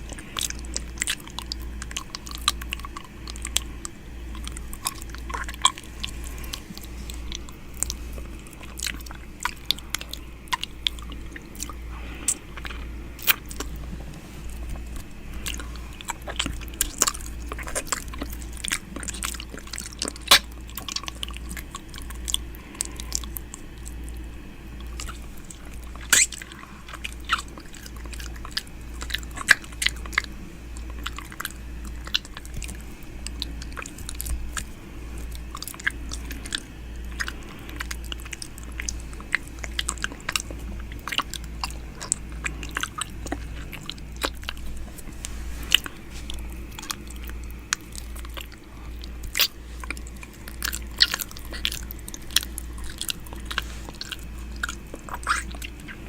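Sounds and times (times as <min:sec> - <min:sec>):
low steady hum: 0:00.0 - 0:56.0
wet mouth sounds: 0:00.0 - 0:56.0.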